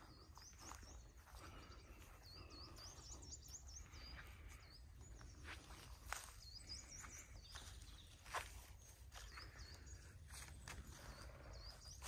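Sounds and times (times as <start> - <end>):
faint footsteps on grass: 0.0 - 12.0
songbird singing quietly: 0.0 - 12.0.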